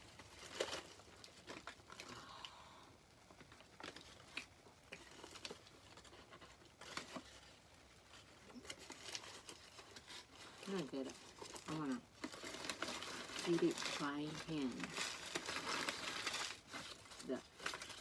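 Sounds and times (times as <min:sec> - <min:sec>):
paper wrapper crinkling: 0:00.0 - 0:02.2, 0:03.2 - 0:18.0.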